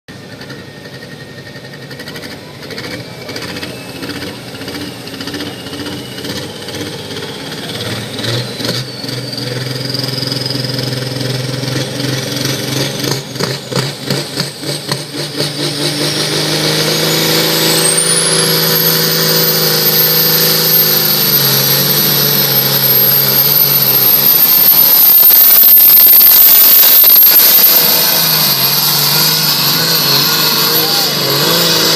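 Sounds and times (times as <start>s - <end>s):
high rising whine: 0.1s - 31.9s.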